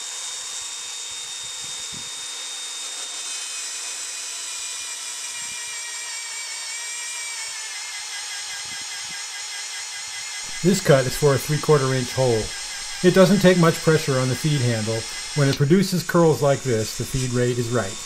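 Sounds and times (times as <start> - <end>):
magnetic drill whining: 0.0 - 18.0.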